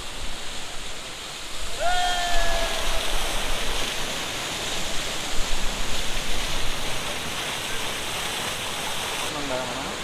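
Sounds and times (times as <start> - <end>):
rushing river rapids: 0.0 - 10.0.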